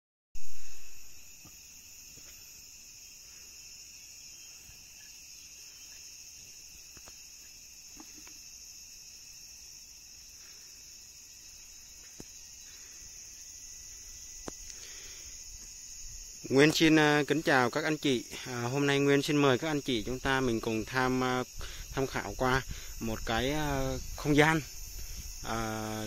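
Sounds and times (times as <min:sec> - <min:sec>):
insects chirring: 0:00.4 - 0:26.0.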